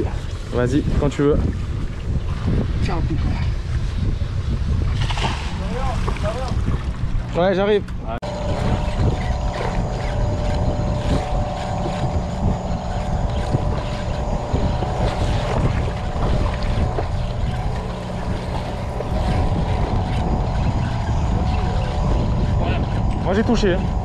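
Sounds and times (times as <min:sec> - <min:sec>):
boat engine hum: 0:00.0 - 0:24.0
wind on microphone: 0:00.0 - 0:24.0.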